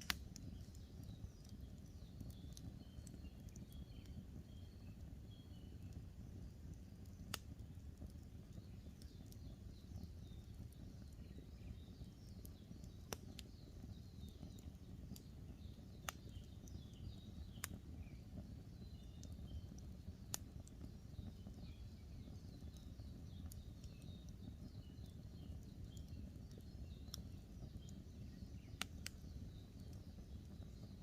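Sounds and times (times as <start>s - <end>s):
campfire crackling and popping: 0.0s - 31.0s
small birds chirping: 0.0s - 31.0s.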